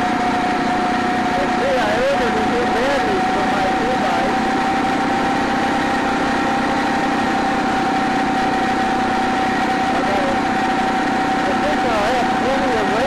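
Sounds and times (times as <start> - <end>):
high whine: 0.0 - 13.0
motorized bicycle engine droning: 0.0 - 13.0.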